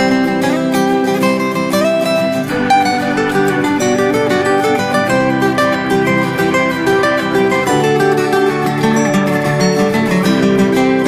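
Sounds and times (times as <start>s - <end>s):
plucked acoustic guitar music: 0.0s - 11.0s.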